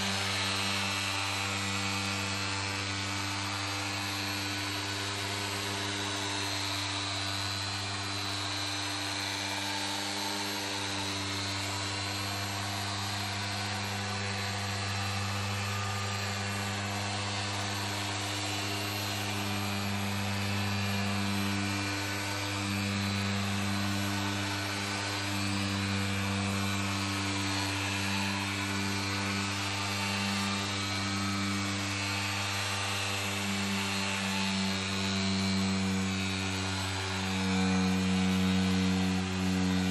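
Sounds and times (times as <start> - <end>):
orbital polisher motor hum: 0.0 - 39.9.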